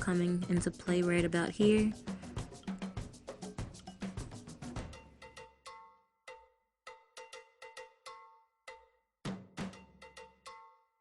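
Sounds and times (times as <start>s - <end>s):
music with quick percussive beat: 0.0s - 10.9s.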